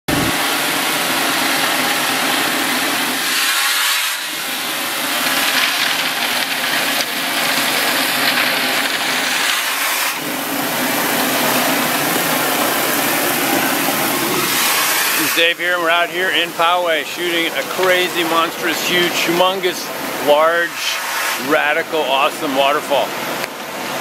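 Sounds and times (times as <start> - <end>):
engine running: 0.1 - 3.6, 4.3 - 20.5
shotcrete spraying hiss: 0.1 - 22.6.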